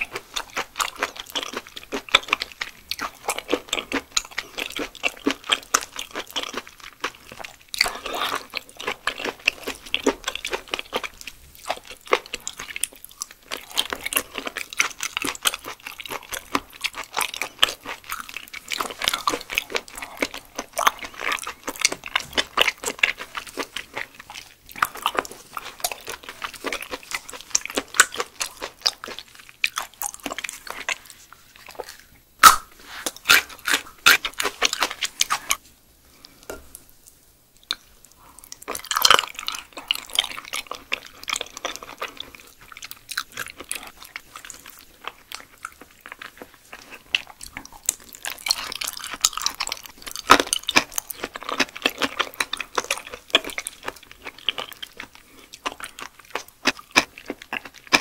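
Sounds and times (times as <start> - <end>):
wet chewing and mouth clicks: 0.0 - 35.6, 36.2 - 58.0.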